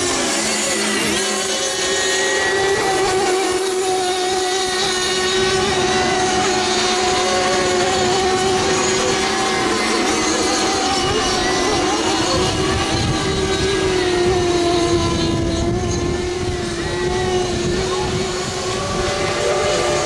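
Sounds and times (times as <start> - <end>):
model boat engines whining: 0.0 - 20.0.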